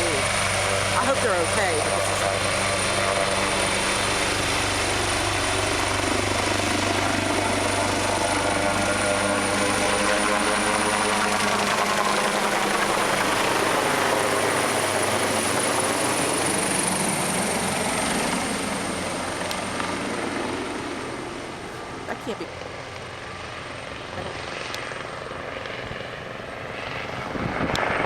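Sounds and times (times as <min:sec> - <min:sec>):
helicopter rotors and engine: 0:00.0 - 0:28.0.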